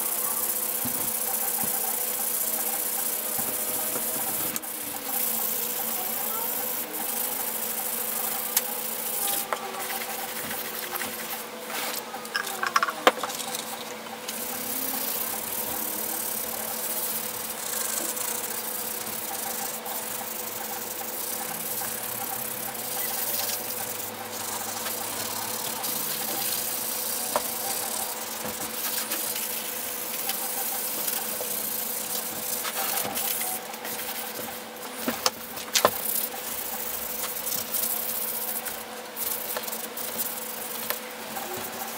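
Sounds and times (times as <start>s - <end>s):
background hum and hiss: 0.0s - 41.9s.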